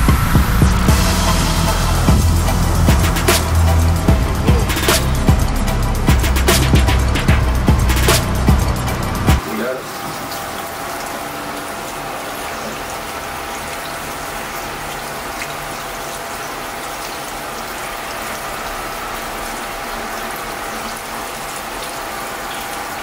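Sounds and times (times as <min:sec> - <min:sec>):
faucet water splashing: 0:00.0 - 0:23.0.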